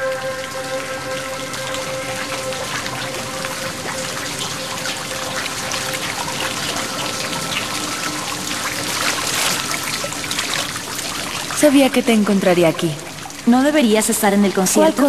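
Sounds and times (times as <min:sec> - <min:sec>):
swimmer splashing: 0:00.0 - 0:15.0
water sloshing and trickling: 0:00.0 - 0:15.0.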